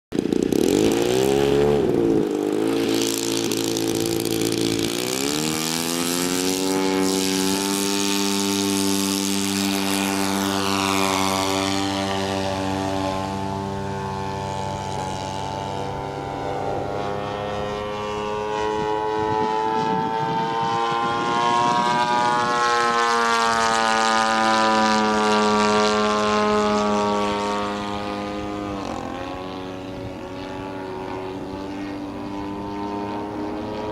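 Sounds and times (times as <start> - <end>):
model airplane engine running: 0.1 - 33.9.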